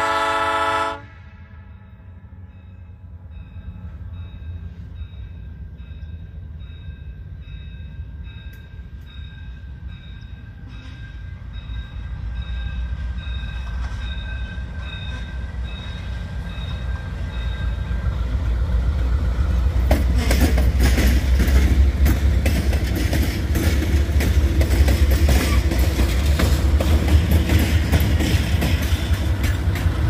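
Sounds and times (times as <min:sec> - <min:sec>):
locomotive engine rumble: 0:02.1 - 0:30.0
train wheels clanking: 0:03.5 - 0:30.0.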